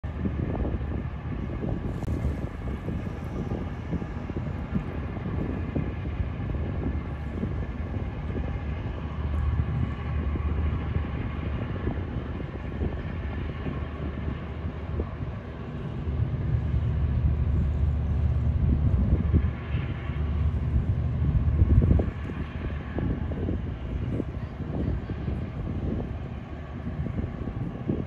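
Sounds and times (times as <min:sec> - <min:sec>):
boat diesel engines droning: 0:00.0 - 0:28.0.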